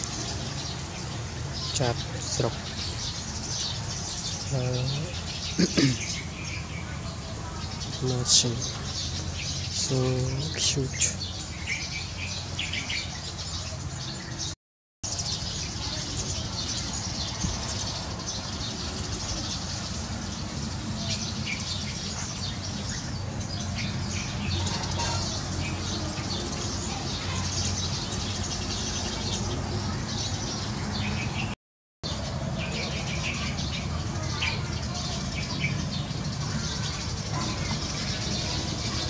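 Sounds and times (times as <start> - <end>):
sparrows chirping: 0.0 - 39.0.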